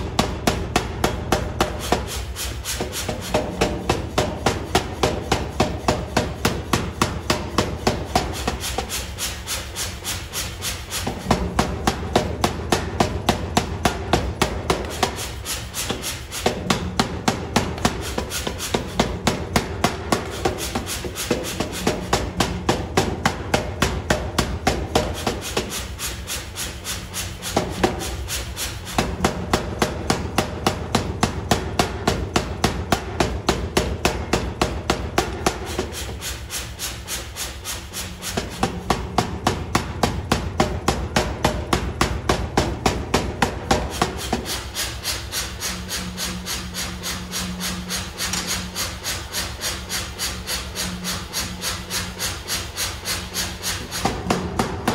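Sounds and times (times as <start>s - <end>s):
low machine hum: 0.0s - 54.9s
power hammer blows: 0.0s - 54.9s.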